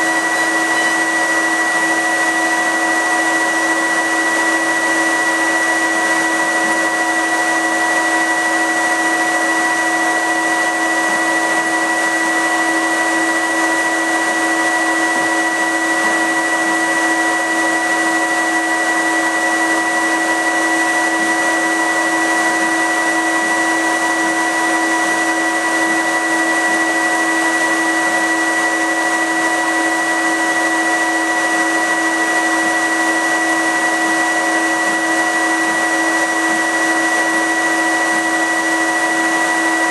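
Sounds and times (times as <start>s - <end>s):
steady whining tones: 0.0s - 32.2s.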